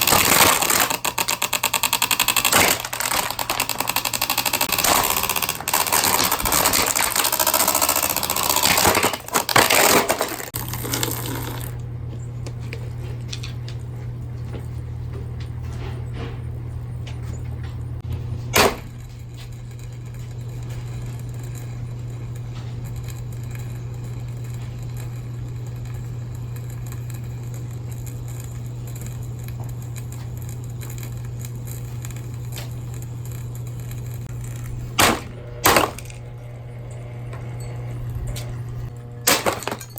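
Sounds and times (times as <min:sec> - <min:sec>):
box fan clattering rattle: 0:00.0 - 0:11.8, 0:12.5 - 0:39.9
low motor hum: 0:00.0 - 0:39.9.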